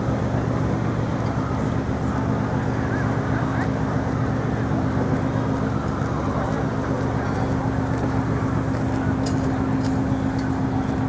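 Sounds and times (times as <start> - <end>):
low machinery hum: 0.0 - 11.0
street traffic: 0.0 - 11.0.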